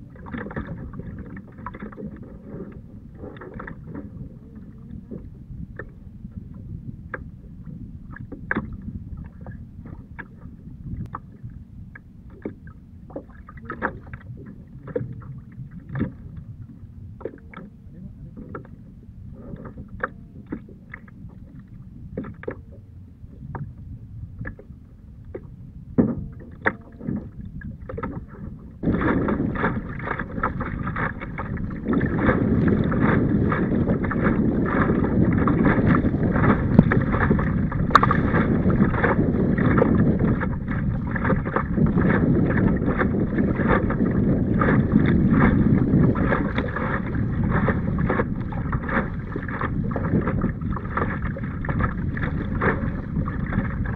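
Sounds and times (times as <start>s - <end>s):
water rushing along a hull: 0.0s - 53.9s
wind on microphone: 0.0s - 53.9s.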